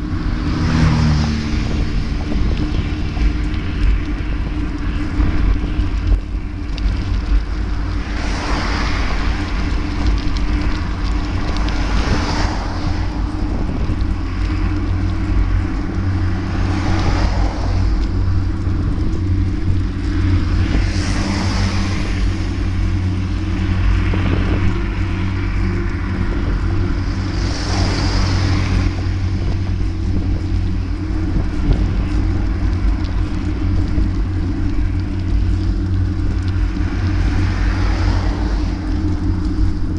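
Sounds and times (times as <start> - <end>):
road and wind rumble: 0.0 - 39.9
vehicle passing: 0.0 - 39.9.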